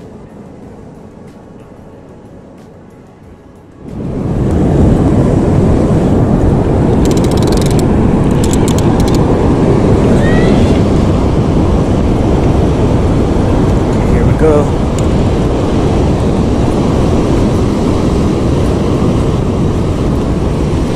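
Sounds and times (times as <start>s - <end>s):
heavy ocean surf rumbling: 0.0s - 20.9s.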